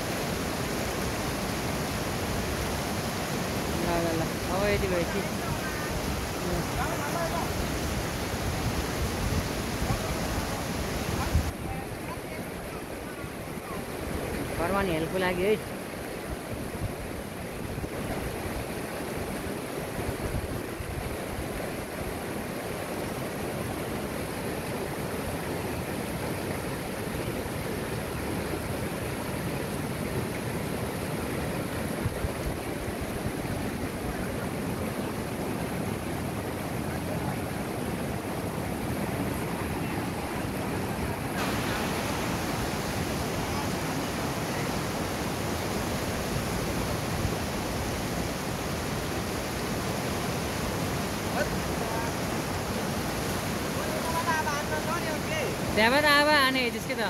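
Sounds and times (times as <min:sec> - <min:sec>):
mountain stream rushing over rapids: 0:00.0 - 0:57.0.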